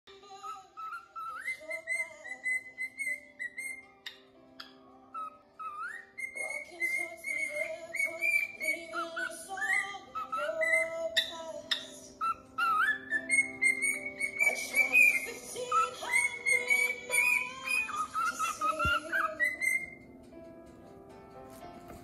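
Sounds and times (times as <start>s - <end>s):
cockatiel whistling: 0.4s - 20.2s.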